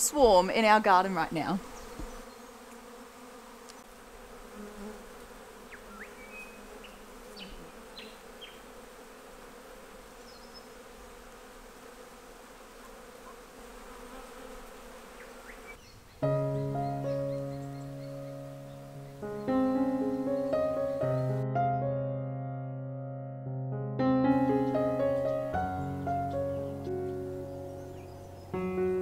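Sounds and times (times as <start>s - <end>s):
bees humming: 0.0s - 21.5s, 24.3s - 29.0s.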